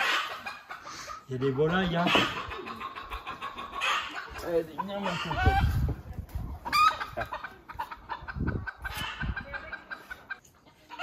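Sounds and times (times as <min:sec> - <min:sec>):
chicken squawking: 0:00.0 - 0:05.9, 0:06.6 - 0:11.0
chickens clucking: 0:00.0 - 0:11.0.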